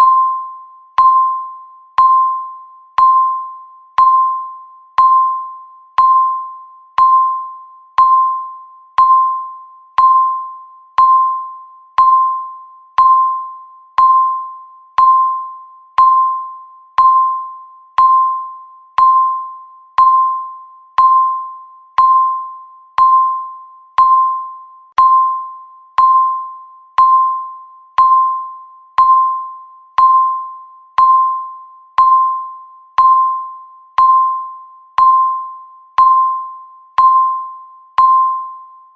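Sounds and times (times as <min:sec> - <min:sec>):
electronic timer beeps: 0:00.0 - 0:38.9.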